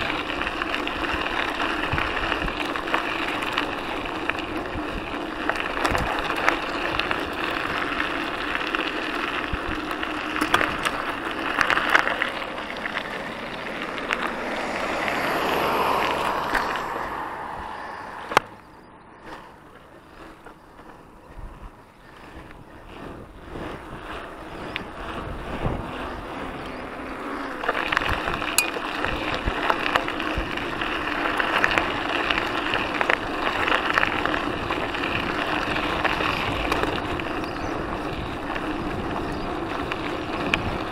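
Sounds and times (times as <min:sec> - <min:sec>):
wind on microphone: 0:00.0 - 0:08.7, 0:14.0 - 0:19.4, 0:20.0 - 0:40.9
bike rattling: 0:00.0 - 0:40.9
bike tyres rolling: 0:00.0 - 0:40.9.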